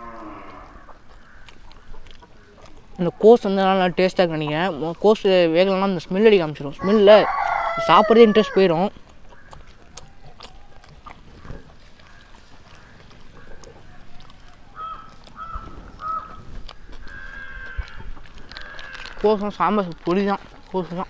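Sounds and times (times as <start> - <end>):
chickens calling: 0.0 - 21.0.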